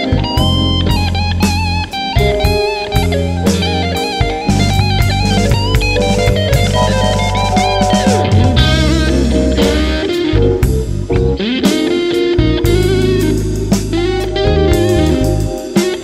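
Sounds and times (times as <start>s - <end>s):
backing track bass and drums: 0.0s - 16.0s
electric guitar lead melody: 0.0s - 16.0s.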